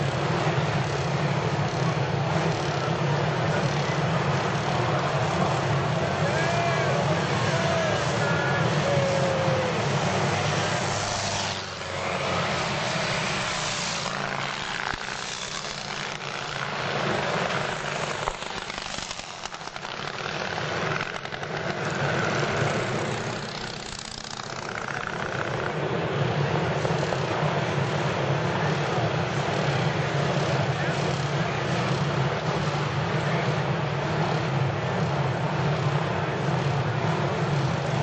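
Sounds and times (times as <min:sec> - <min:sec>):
racing motorcycle engines passing: 0:00.0 - 0:38.0.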